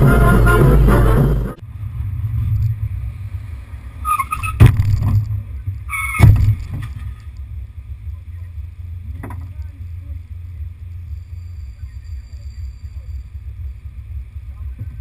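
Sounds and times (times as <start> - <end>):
car engine idling: 0.0 - 4.1, 6.5 - 15.0.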